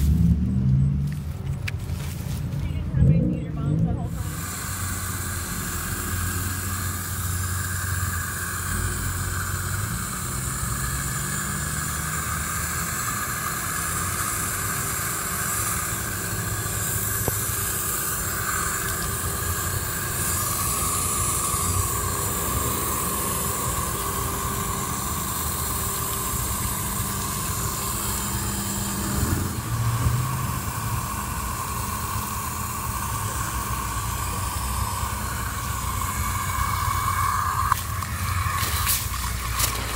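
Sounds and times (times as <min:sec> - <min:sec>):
hose spray hissing on plants: 0:04.1 - 0:39.9.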